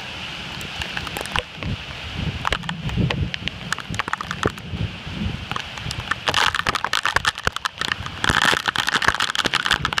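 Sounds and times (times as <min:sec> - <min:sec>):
heavy rain: 0:00.0 - 0:10.0
wind rumble on microphone: 0:00.0 - 0:10.0
raindrops clicking on microphone: 0:00.4 - 0:10.0.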